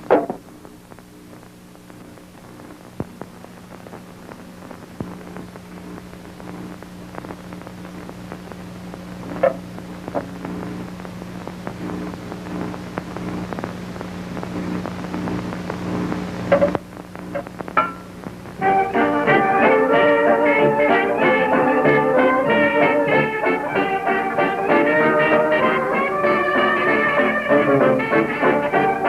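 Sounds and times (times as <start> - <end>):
crackles and pops: 0.0 - 29.0
steady low hum: 0.0 - 29.0.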